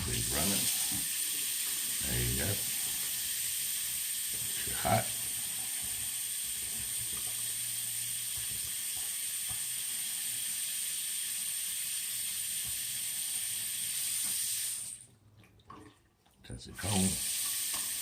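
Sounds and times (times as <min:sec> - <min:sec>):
faucet running water: 0:00.0 - 0:15.1, 0:16.7 - 0:18.0.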